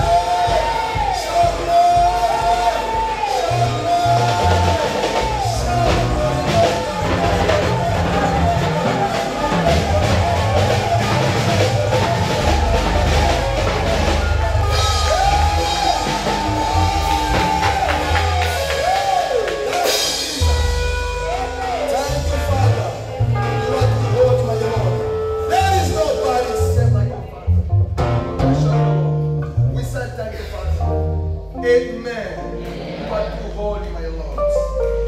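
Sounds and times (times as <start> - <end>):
drum kit: 0.0 - 27.0, 27.6 - 33.1
deep steady bass: 0.0 - 35.0.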